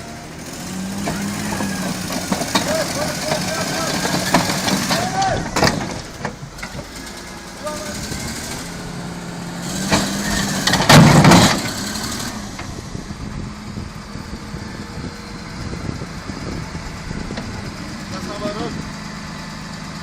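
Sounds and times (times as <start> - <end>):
diesel engine running: 0.0 - 20.0
loud rough noise burst: 0.3 - 19.4.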